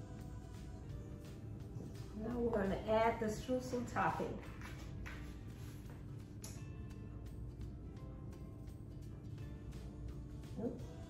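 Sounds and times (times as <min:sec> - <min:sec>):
background music with beat: 0:00.0 - 0:03.1, 0:04.0 - 0:11.0.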